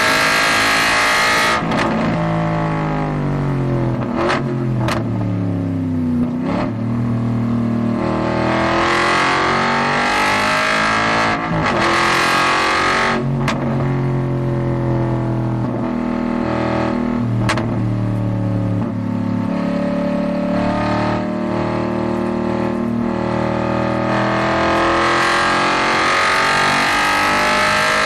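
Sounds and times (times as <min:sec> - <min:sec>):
car engine revving: 0:00.0 - 0:05.5, 0:06.2 - 0:28.0.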